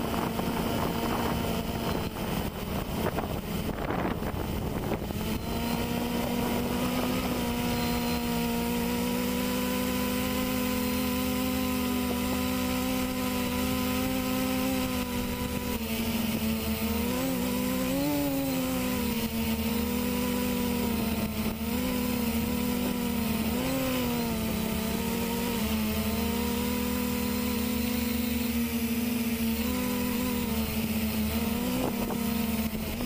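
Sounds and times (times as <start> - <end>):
quadcopter motors humming: 0.0 - 33.0.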